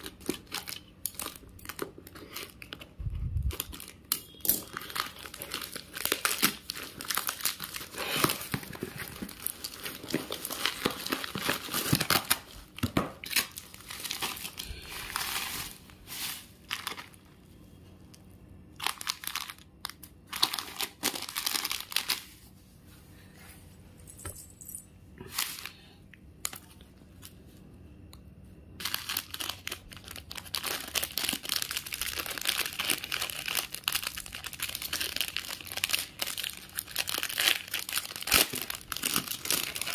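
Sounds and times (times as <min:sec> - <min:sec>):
plastic wrapping crinkling: 0:00.0 - 0:17.4, 0:18.8 - 0:22.6, 0:28.8 - 0:39.9.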